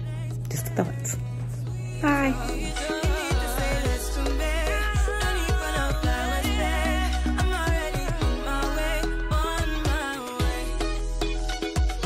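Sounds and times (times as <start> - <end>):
melody over drum beat: 2.0 - 12.0.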